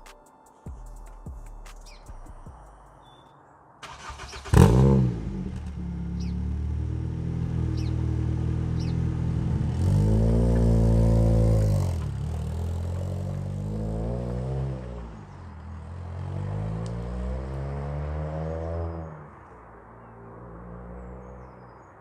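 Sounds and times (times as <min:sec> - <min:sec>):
car engine idling and revving: 0:03.9 - 0:21.6.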